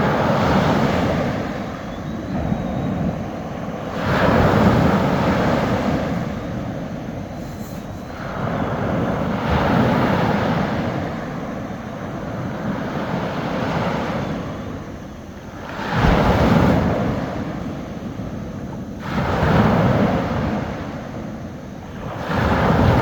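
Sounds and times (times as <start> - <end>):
sea waves breaking on a beach: 0.0 - 23.0.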